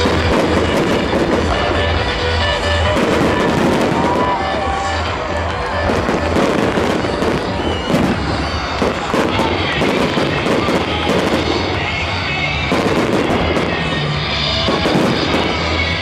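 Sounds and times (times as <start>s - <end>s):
fireworks bangs and crackles: 0.0s - 16.0s
music: 0.0s - 16.0s.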